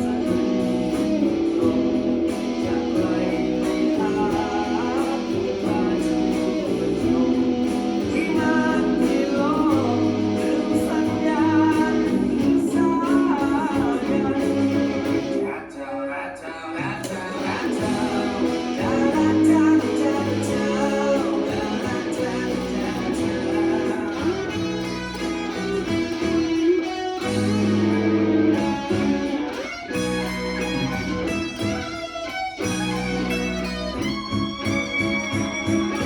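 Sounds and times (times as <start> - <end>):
bass line: 0.0 - 15.4, 17.1 - 32.0, 32.6 - 36.0
plucked guitar music: 0.0 - 15.4, 17.0 - 36.0.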